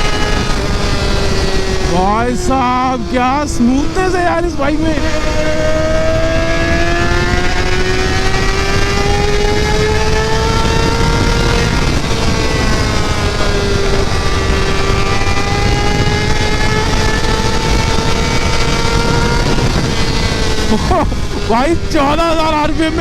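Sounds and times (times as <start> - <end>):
motorbike engine at high revs: 0.0 - 23.0
wind and road rush: 0.0 - 23.0.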